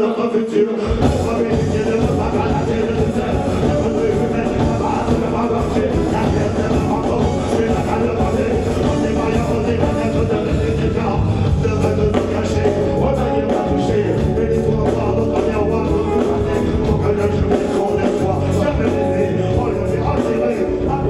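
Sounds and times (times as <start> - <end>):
keyboard: 0.0 - 21.0
person singing: 0.0 - 21.0
drum kit: 0.8 - 21.0
electric guitar: 0.8 - 21.0.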